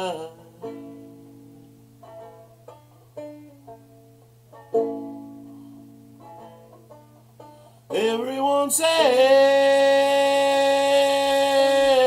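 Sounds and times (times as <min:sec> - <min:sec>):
banjo picked slowly: 0:00.0 - 0:12.0
faint low hum: 0:00.0 - 0:12.0.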